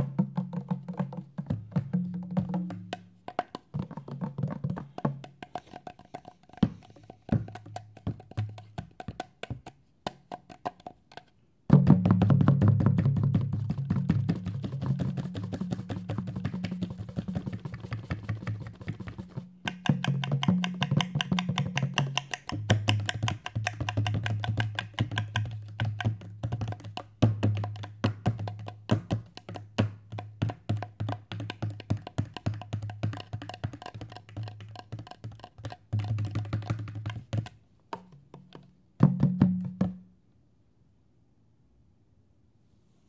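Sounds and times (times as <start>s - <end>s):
hand drums played quickly: 0.0s - 40.1s.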